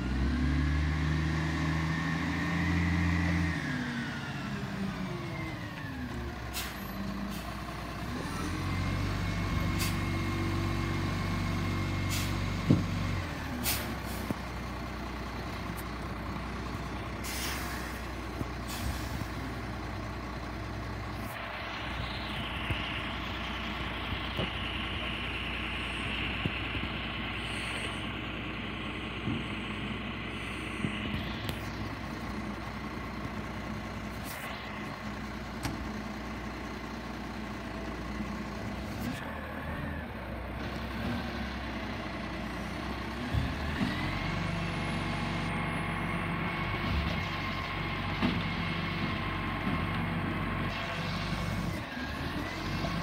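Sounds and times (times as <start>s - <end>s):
garbage truck engine running: 0.0s - 53.0s.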